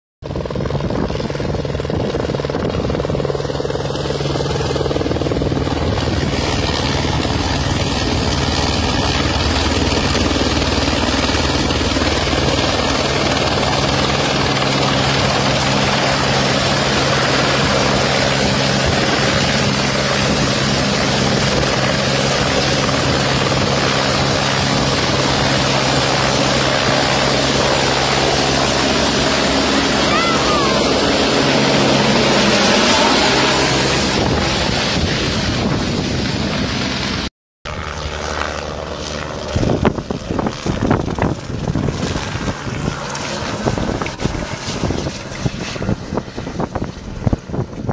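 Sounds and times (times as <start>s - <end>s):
helicopter hovering: 0.2s - 47.9s.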